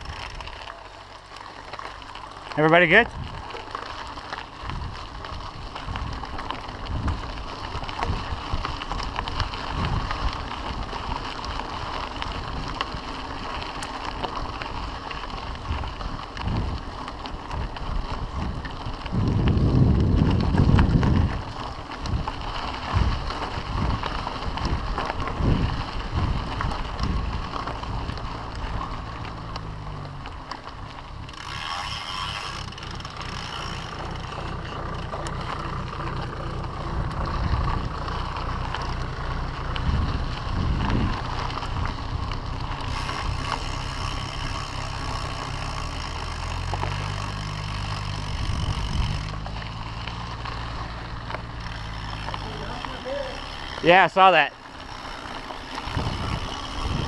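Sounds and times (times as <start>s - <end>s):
bike frame rattling: 0.0s - 57.0s
bike tyres crunching on gravel: 0.0s - 57.0s
wind buffeting microphone: 3.0s - 3.5s, 4.6s - 13.4s, 14.3s - 54.1s, 54.9s - 57.0s.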